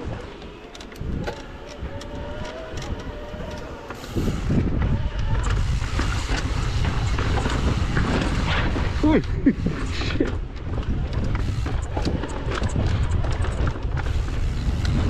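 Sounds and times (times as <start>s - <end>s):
bike tyre and drivetrain noise: 0.0s - 15.0s
small clicks: 0.0s - 15.0s
wind rush on microphone: 0.0s - 15.0s.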